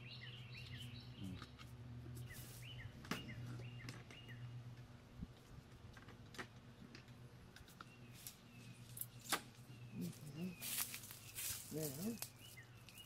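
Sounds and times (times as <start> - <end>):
birds chirping: 0.0 - 5.1, 6.6 - 13.0
low steady hum: 0.0 - 13.0.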